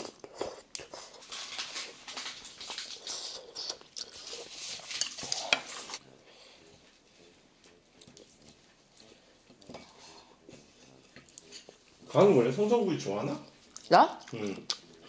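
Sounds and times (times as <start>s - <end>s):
wet chewing mouth noises: 0.0s - 6.0s, 6.8s - 12.1s, 13.5s - 15.0s.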